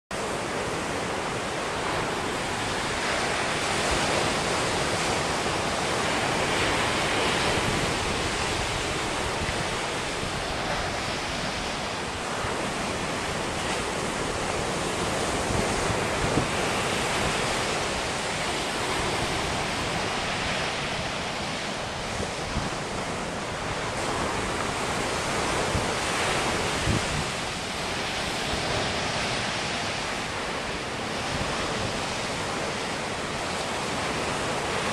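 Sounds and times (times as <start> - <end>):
surf breaking on a beach: 0.1 - 34.9.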